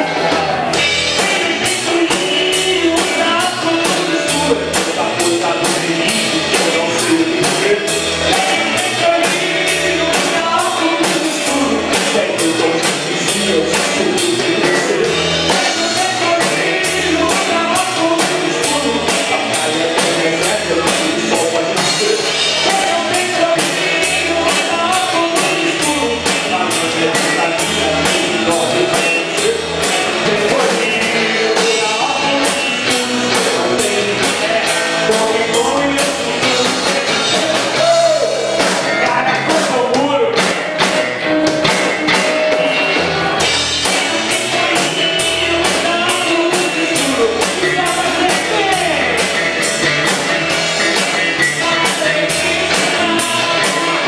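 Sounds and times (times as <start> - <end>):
man singing: 0.0 - 41.5, 42.1 - 54.0
drum kit beat: 0.0 - 54.0
electric bass: 0.0 - 54.0
electric guitars: 0.0 - 54.0.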